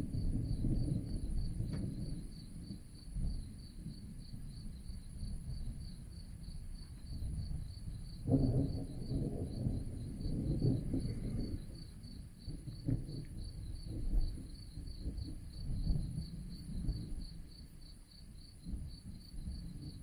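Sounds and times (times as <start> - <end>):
crickets chirping: 0.0 - 20.0
distant thunder rumbling: 0.0 - 20.0.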